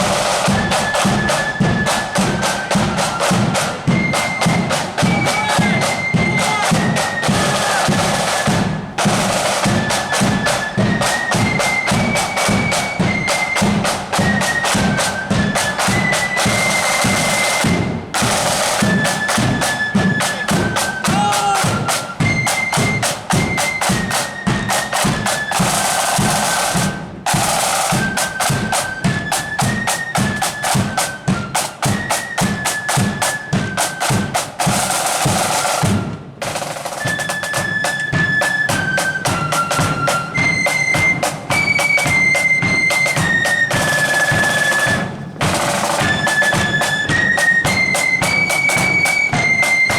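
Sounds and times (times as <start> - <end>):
flutes playing a tune: 0.0 - 49.9
snare and bass drumming: 0.0 - 49.9.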